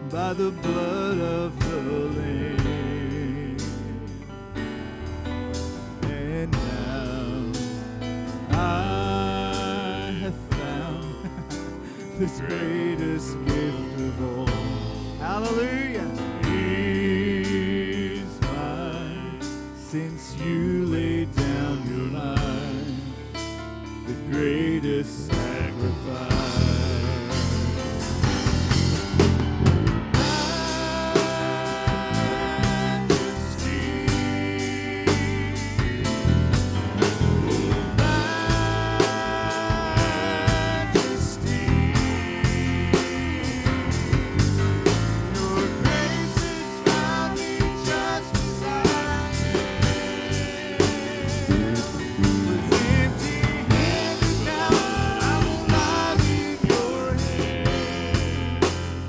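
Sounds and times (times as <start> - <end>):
drum kit beat: 0.0 - 4.2, 5.5 - 19.6, 21.4 - 24.0, 25.4 - 59.0
worship band playing: 0.0 - 59.0.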